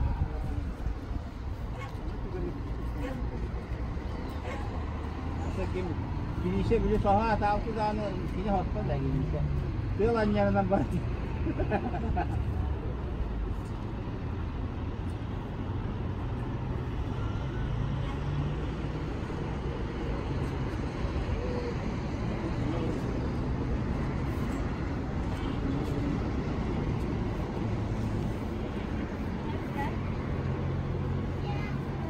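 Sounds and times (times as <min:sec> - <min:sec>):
low city rumble: 0:00.0 - 0:32.0.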